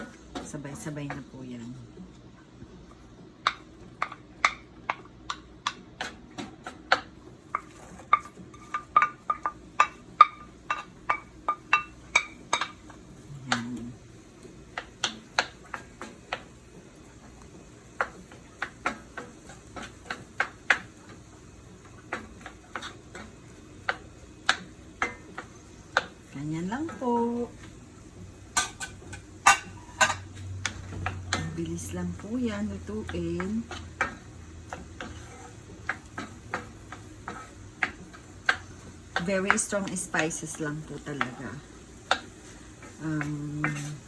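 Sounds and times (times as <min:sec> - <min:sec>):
utensil stirring vegetables in pan: 0:02.9 - 0:44.0.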